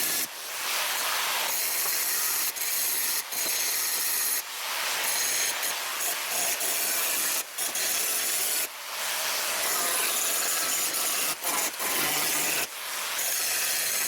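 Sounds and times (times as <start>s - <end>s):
power sander rasping hiss: 0.0s - 14.0s.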